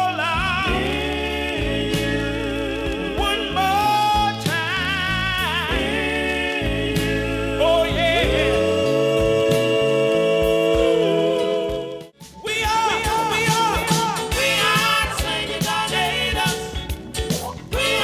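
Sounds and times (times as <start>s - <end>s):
bass: 0.0s - 18.0s
drums: 0.0s - 18.0s
male voices singing in harmony: 0.0s - 18.0s.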